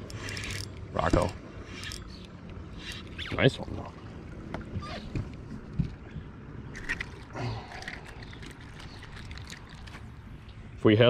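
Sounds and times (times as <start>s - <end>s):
water lapping against boat hull: 0.0s - 10.5s.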